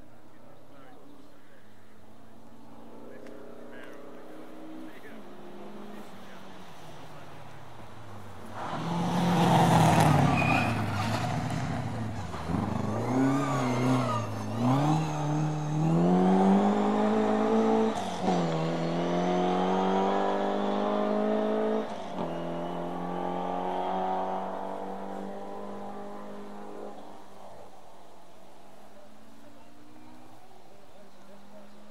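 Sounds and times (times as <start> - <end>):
rally car engine: 1.1 - 31.9.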